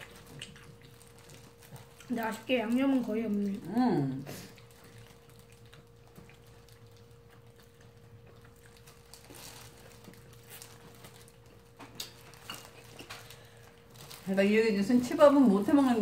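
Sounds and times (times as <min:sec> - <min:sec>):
chewing and mouth smacking: 0:00.0 - 0:14.3
faint hum: 0:00.0 - 0:16.0.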